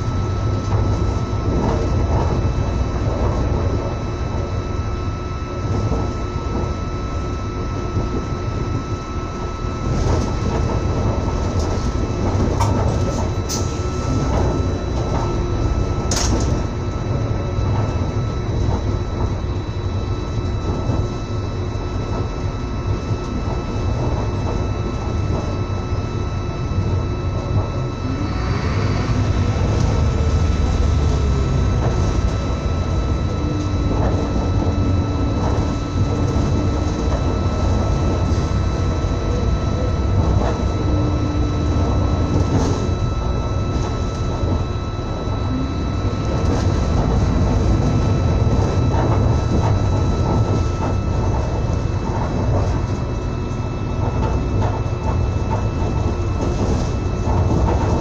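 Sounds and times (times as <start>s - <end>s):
faint steady whine: 0.0s - 58.0s
train rumble inside carriage: 0.0s - 58.0s.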